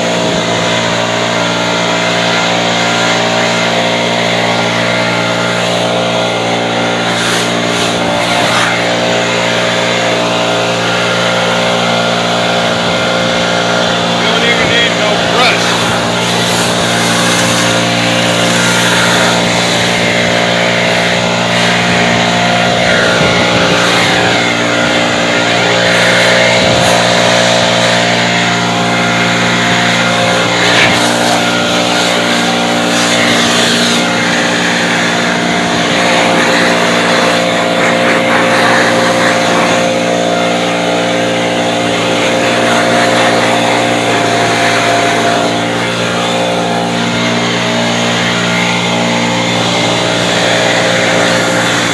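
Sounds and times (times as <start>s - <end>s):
snow blower motor drone: 0.0s - 51.9s.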